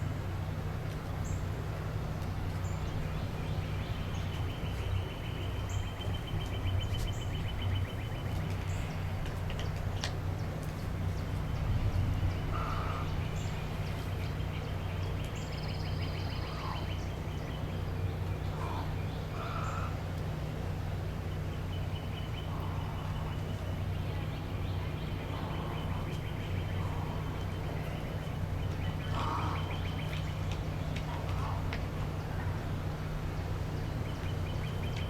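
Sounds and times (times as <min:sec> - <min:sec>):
steady low hum: 0:00.0 - 0:35.0
birds calling: 0:00.2 - 0:35.0.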